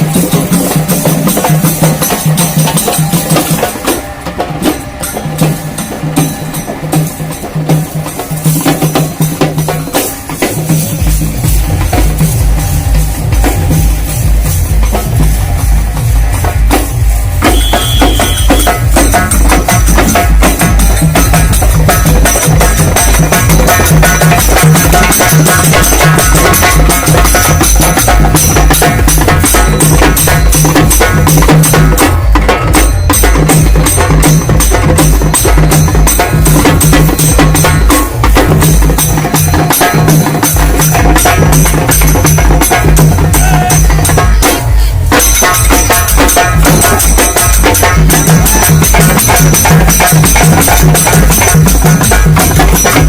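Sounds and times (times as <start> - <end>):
frame drums beaten fast: 0.0 - 53.0.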